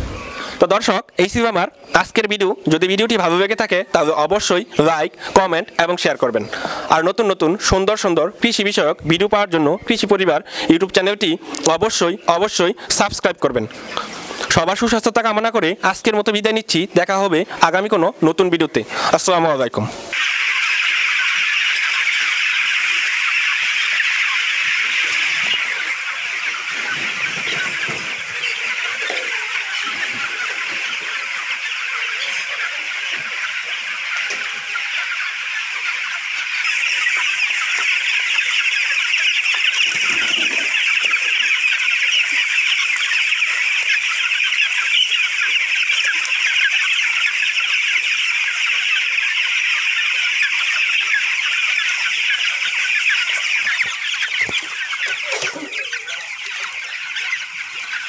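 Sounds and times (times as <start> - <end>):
flock of chickens clucking: 0.0 - 58.0.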